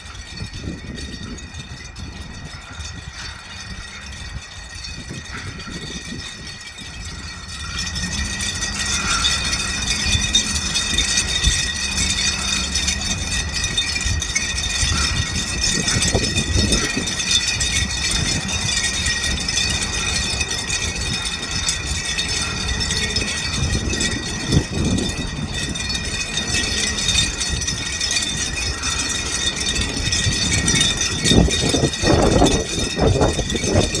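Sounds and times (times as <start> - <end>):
low wind rumble: 0.0 - 34.0
metal chimes ringing in wind: 0.0 - 34.0.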